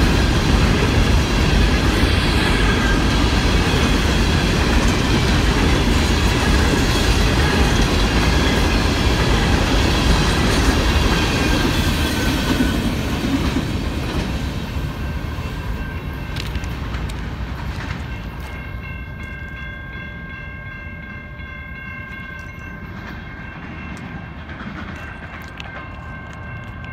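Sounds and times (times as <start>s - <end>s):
train cars clattering on rails: 0.0s - 26.9s.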